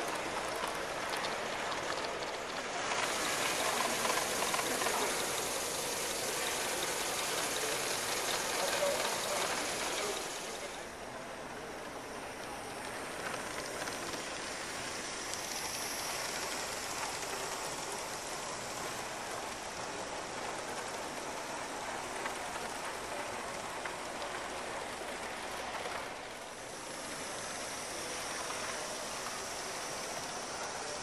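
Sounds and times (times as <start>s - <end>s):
model steam locomotive hissing: 0.0s - 31.0s
wheels rolling on rails: 0.0s - 31.0s.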